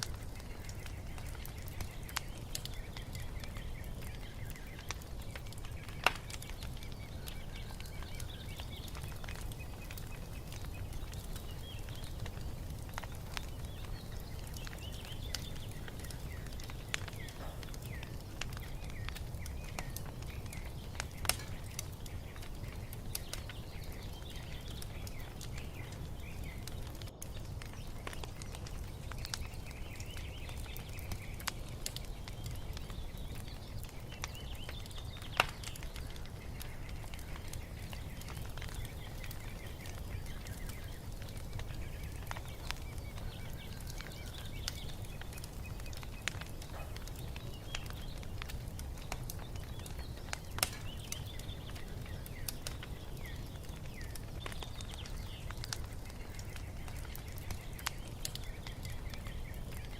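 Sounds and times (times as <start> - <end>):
small birds chirping: 0.0 - 59.9
wood fire crackling and popping: 0.0 - 59.9.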